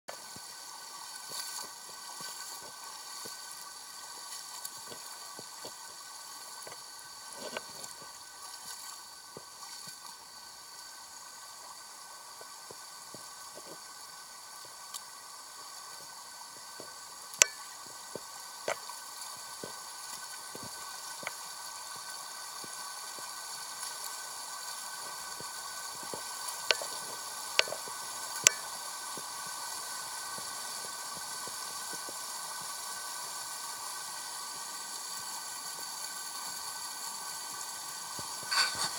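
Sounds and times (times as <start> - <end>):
stream rushing over rocks: 0.1 - 38.9.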